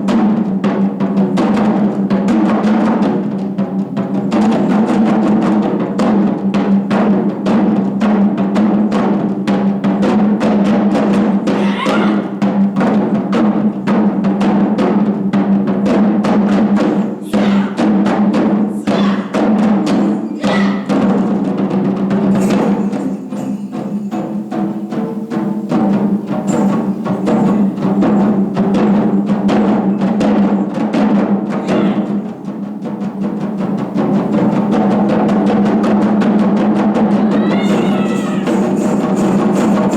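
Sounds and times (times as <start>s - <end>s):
taiko drums ensemble: 0.0s - 39.9s.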